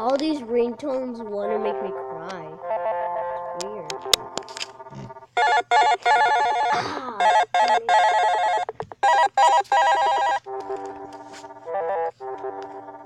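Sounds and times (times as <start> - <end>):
trilling electronic phone ringtone: 1.5 - 13.0.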